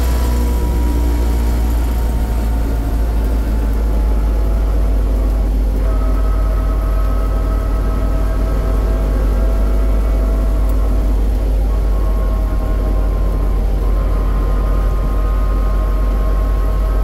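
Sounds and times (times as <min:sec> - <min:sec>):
faint vehicle whine: 0:00.0 - 0:17.0.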